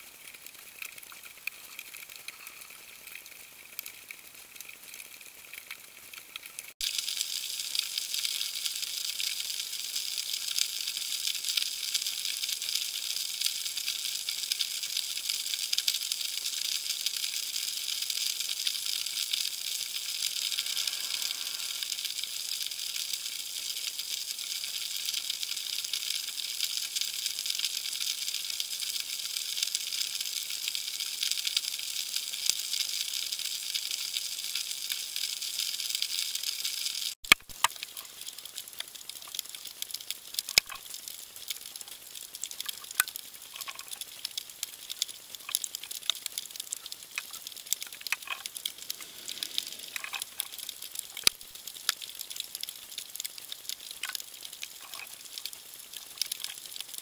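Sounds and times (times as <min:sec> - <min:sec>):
underwater crackling hiss: 0:00.0 - 0:57.0.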